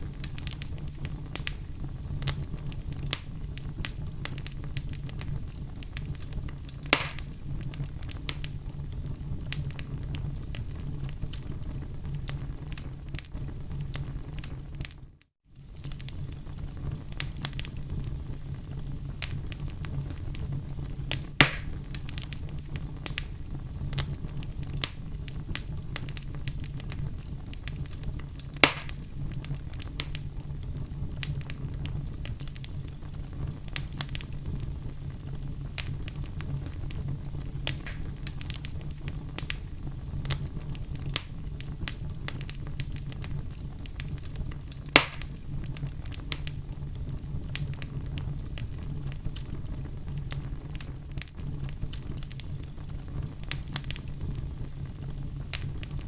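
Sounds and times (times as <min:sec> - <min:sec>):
loud fire pops: 0:00.0 - 0:56.0
wood fire crackling: 0:00.0 - 0:56.0.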